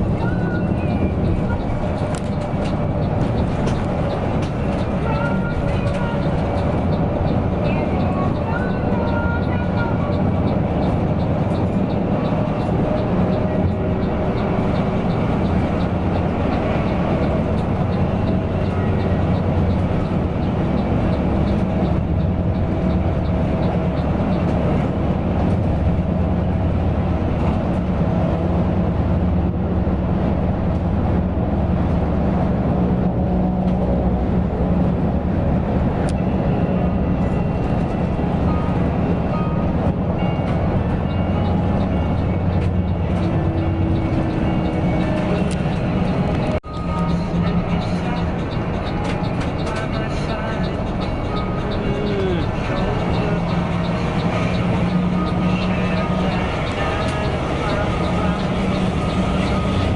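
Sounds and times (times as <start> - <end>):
coach engine and road rumble: 0.0 - 59.9.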